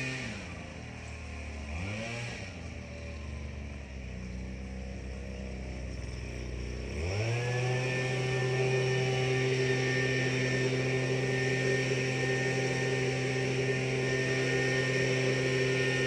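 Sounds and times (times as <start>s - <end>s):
tractor engine idling and revving: 0.0s - 16.0s.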